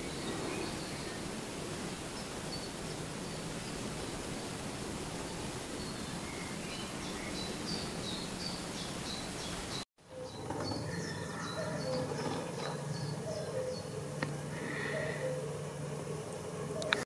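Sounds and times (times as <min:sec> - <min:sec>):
steady hiss: 0:00.0 - 0:09.9, 0:12.0 - 0:17.0
lower bird calls: 0:00.0 - 0:17.0.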